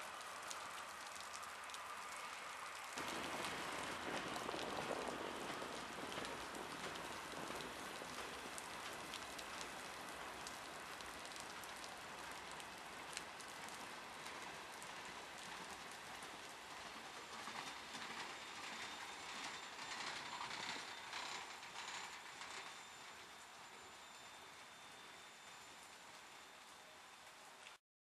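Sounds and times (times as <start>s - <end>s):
heavy rain: 0.0s - 27.8s
rain drops ticking: 0.0s - 27.8s
freight train rolling past: 3.0s - 26.9s.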